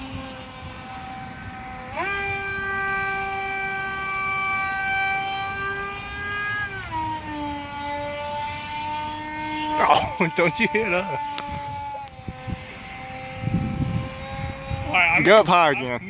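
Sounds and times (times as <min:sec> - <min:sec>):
electric model plane motor whining: 0:00.0 - 0:16.0.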